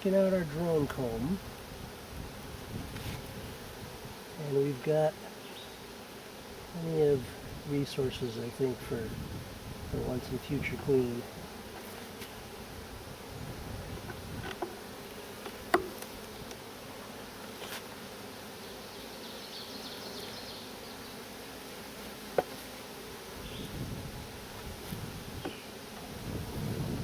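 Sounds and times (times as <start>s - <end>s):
honey bees buzzing: 0.0s - 27.0s.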